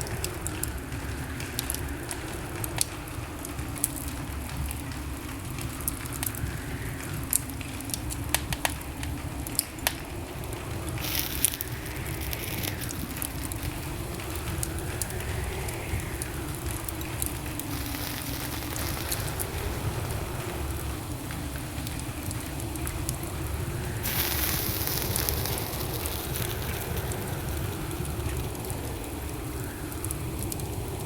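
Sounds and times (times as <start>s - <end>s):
fire hiss: 0.0s - 31.0s
wood fire crackling: 0.0s - 31.0s.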